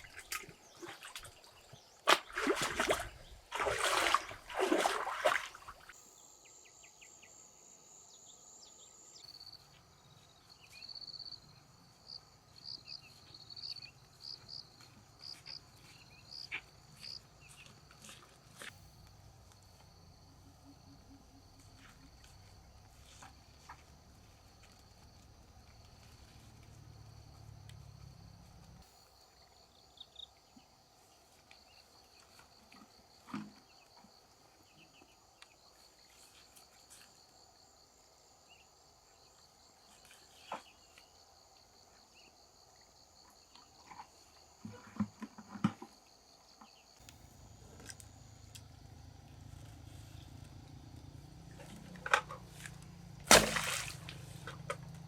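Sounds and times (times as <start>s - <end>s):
high insect chorus: 1.7s - 55.0s.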